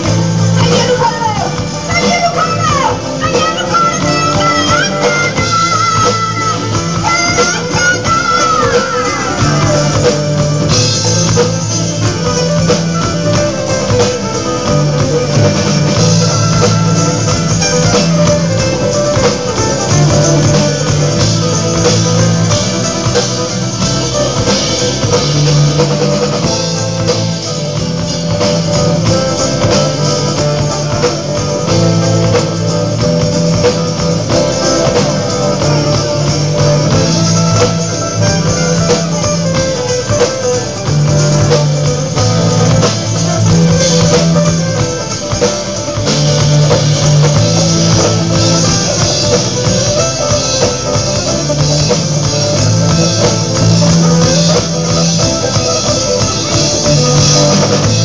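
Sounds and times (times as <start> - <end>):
bass line: 0.0 - 58.0.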